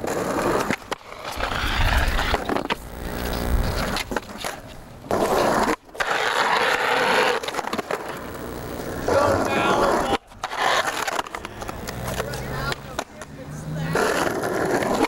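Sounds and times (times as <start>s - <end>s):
skateboard trucks grinding on ledge: 0.0s - 15.0s
skateboard wheels on rough concrete: 0.0s - 15.0s.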